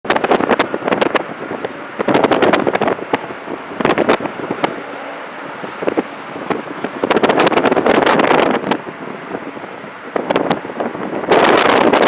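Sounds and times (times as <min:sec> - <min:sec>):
wind buffeting microphone: 0:00.0 - 0:12.0
jet engines humming: 0:00.1 - 0:12.0.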